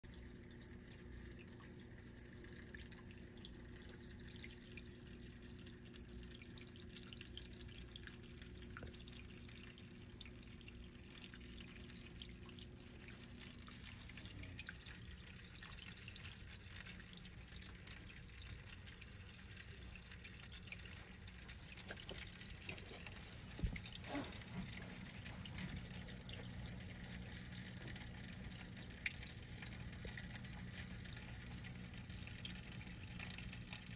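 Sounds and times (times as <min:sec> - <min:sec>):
water trickling and dripping: 0:00.0 - 0:33.9
sharp drips or ticks: 0:00.1 - 0:33.9
steady low hum: 0:00.1 - 0:33.9.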